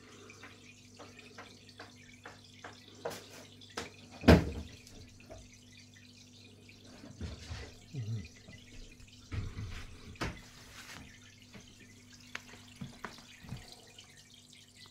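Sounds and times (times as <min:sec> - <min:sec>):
aquarium filter hum: 0:00.0 - 0:14.9
water trickling and dripping: 0:00.0 - 0:14.9.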